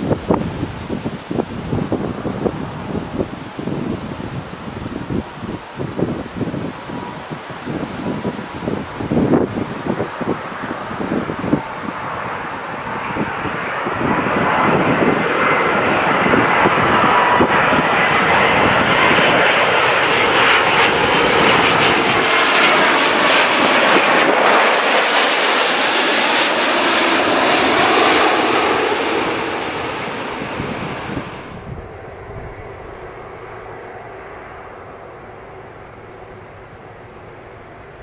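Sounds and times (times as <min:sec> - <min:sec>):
jet airliner passing overhead: 0:00.0 - 0:38.0.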